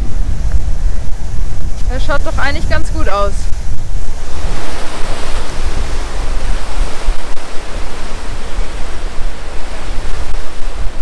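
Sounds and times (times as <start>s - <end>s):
wind buffeting microphone: 0.0s - 11.0s
surf breaking against rocks: 2.0s - 11.0s.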